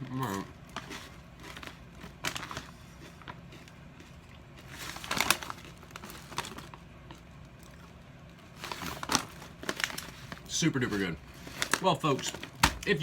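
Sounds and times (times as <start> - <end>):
crunching potato chips: 0.0 - 13.0.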